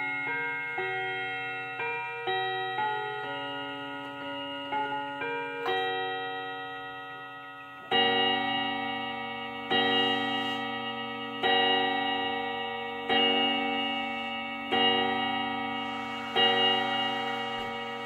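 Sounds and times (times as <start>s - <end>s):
bell-like chime ringing: 0.0s - 18.0s.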